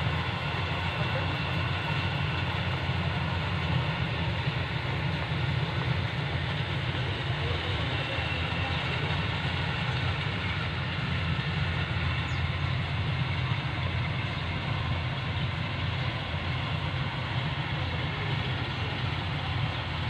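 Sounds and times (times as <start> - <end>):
combine harvester engine rumbling: 0.0 - 20.0.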